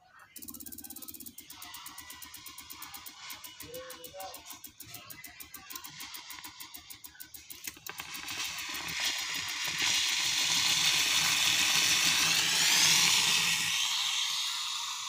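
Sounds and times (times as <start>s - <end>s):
steam iron hissing: 1.3s - 4.8s, 5.7s - 15.0s.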